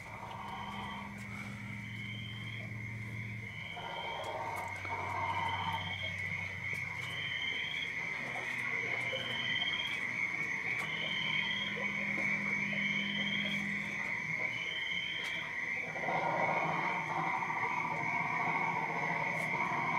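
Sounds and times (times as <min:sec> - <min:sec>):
steady high drone: 0:00.0 - 0:19.9.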